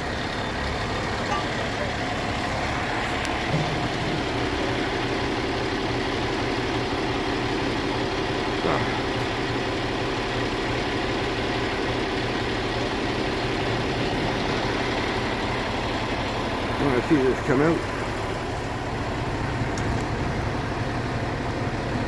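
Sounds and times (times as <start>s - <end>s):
heavy truck engine idling: 0.0s - 22.0s.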